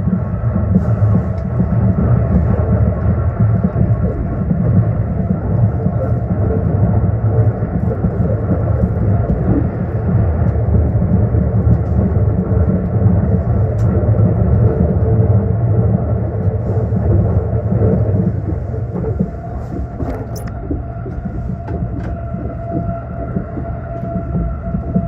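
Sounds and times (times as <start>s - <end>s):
train running low rumble: 0.0s - 25.0s.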